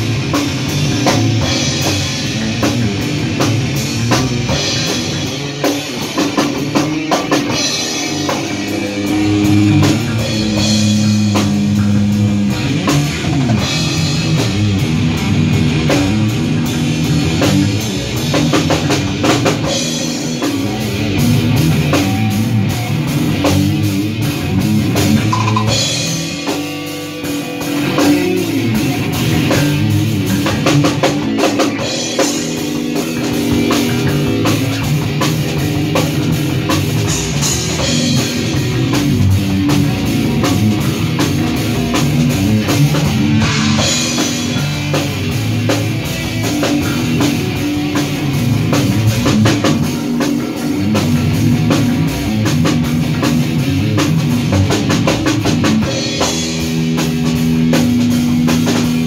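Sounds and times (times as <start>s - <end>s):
drum kit with cymbals: 0.0s - 59.0s
electric guitars: 0.0s - 59.0s.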